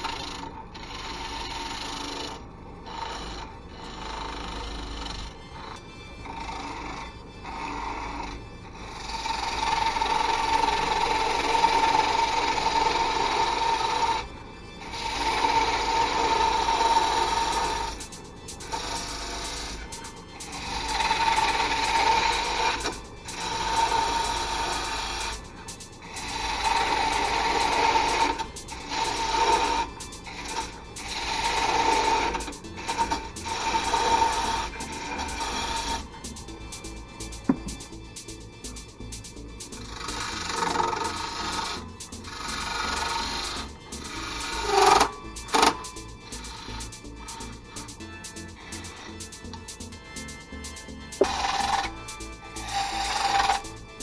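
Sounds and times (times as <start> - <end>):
wood lathe cutting with ringing tone: 0.0 - 54.0.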